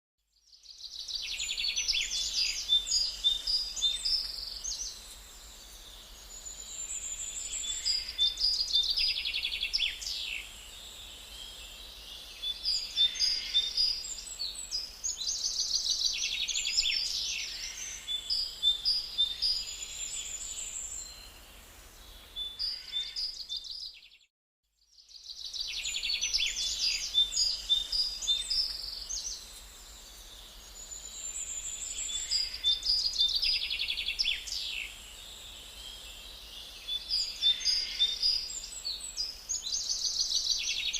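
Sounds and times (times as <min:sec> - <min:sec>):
songbirds trilling and chirping: 0:00.4 - 0:24.2, 0:24.9 - 0:40.9.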